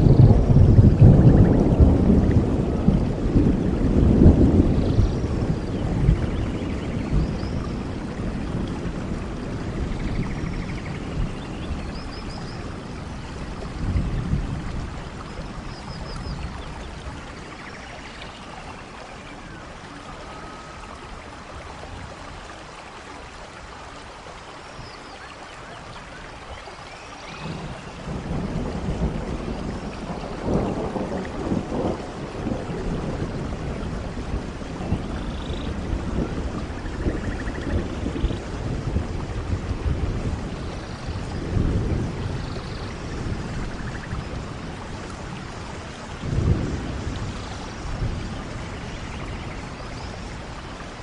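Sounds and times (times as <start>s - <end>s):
rain pattering on leaves: 0.0s - 51.0s.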